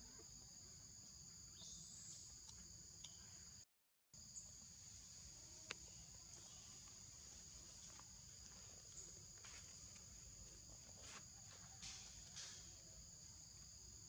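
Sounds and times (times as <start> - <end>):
insects droning: 0.0 - 3.6, 4.2 - 14.0.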